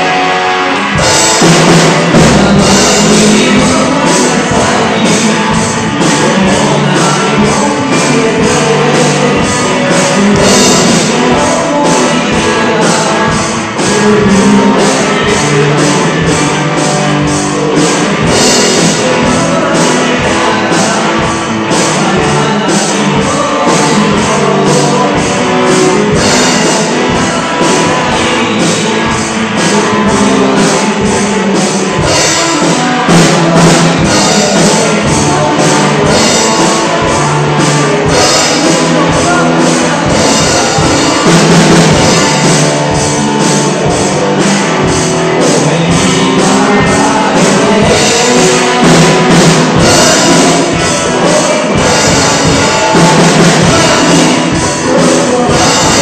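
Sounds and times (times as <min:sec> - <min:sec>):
fast drum beat: 0:00.0 - 0:56.0
man singing: 0:00.0 - 0:56.0
up-tempo rock song: 0:00.0 - 0:56.0.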